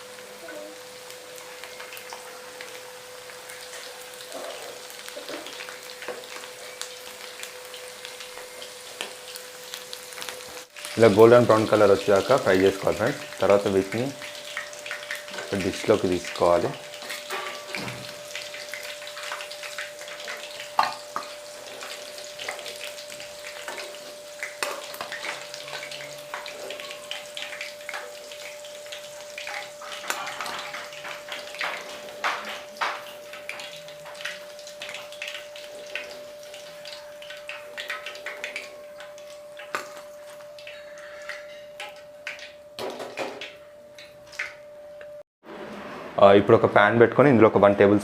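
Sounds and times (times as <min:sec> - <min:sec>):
oil sizzling: 0:00.0 - 0:46.3.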